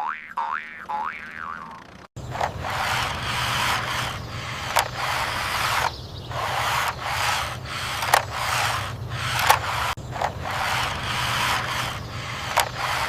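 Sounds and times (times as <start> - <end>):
sharp clicks: 2.2 - 13.0
toy vehicle scraping on surface: 2.2 - 13.0.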